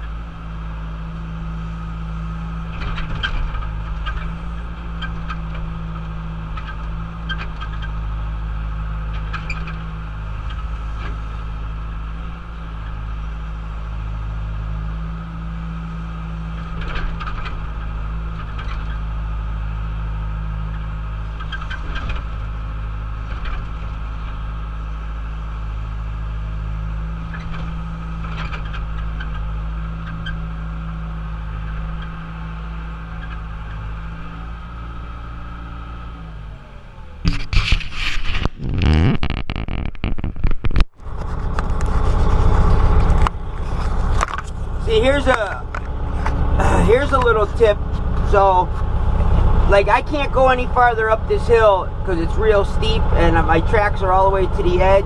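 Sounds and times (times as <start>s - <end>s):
excavator diesel engine running: 0.0s - 38.6s, 40.8s - 55.0s.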